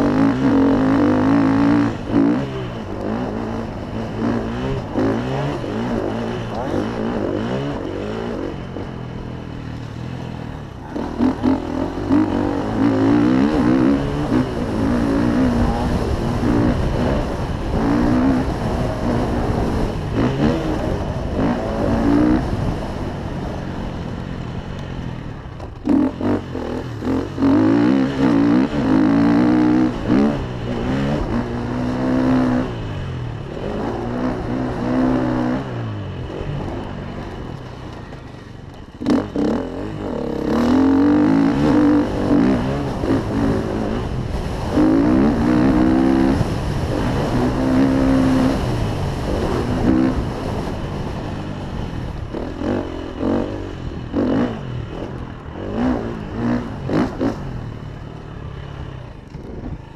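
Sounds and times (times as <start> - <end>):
dirt bike engine revving: 0.0 - 24.2, 25.2 - 59.9.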